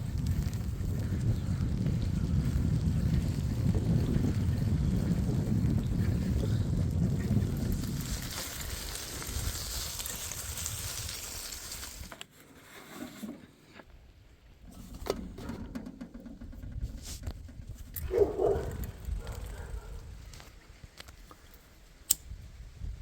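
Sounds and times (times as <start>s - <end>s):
wind buffeting microphone: 0.0s - 12.1s, 14.7s - 20.9s, 22.2s - 23.0s.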